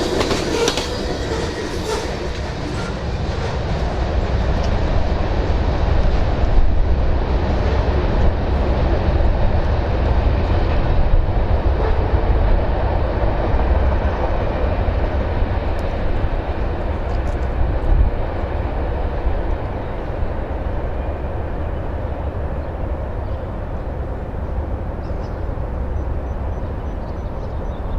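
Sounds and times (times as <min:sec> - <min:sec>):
freight train wheels rumbling: 0:00.0 - 0:27.9.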